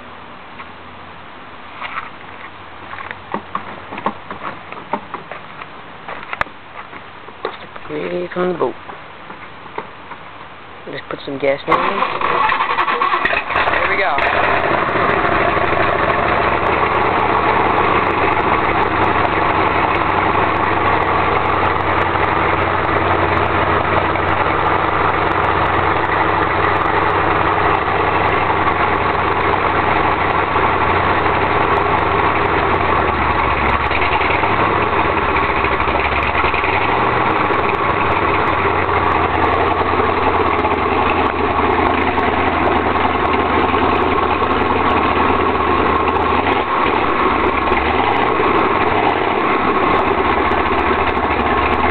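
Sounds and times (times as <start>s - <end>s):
boat engine idling: 7.3s - 51.9s.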